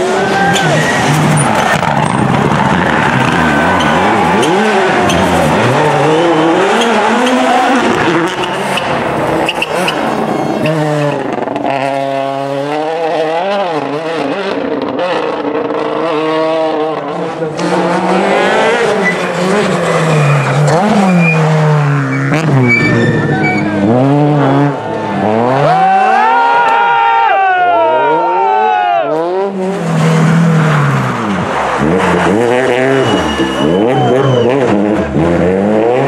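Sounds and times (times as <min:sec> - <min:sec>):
rally car engines revving: 0:00.0 - 0:27.0, 0:27.6 - 0:36.0.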